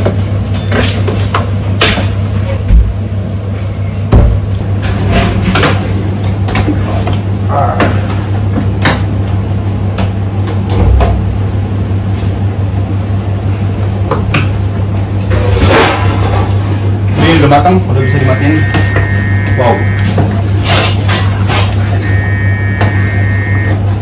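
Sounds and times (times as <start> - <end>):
kitchen equipment humming: 0.0 - 24.0.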